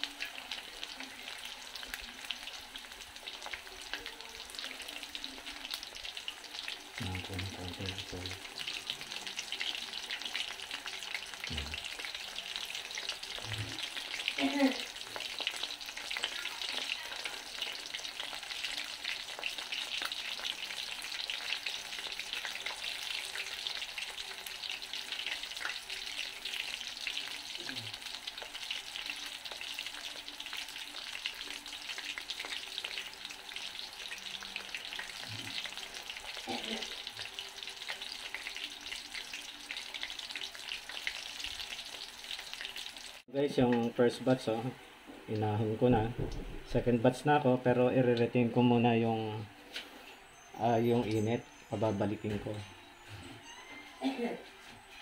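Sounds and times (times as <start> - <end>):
oil sizzling and crackling: 0.0 - 53.6.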